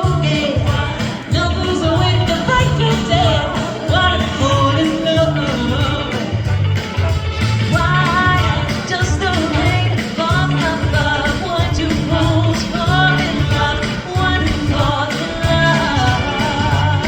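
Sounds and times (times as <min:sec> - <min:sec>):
vocal group singing in harmony: 0:00.0 - 0:06.6, 0:07.7 - 0:17.0
backing music with stepping bass: 0:00.0 - 0:17.0.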